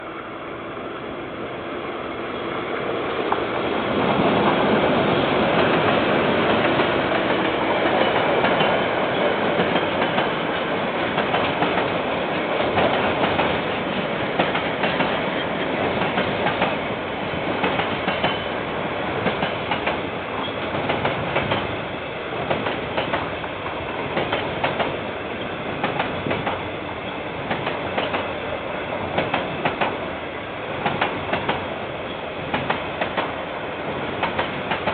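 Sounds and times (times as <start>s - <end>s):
train passing: 0.0s - 34.9s
train wheels clicking over rail joints: 3.3s - 30.1s, 30.7s - 34.9s.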